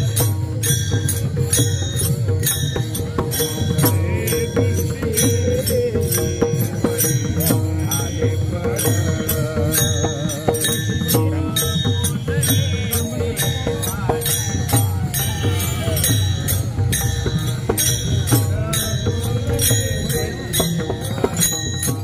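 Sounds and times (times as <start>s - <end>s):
hand cymbals struck: 0.0s - 22.0s.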